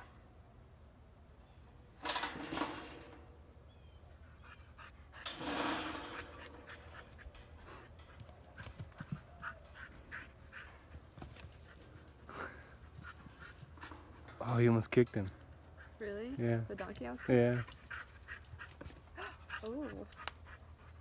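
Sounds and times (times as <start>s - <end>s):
dog panting: 4.1s - 21.0s.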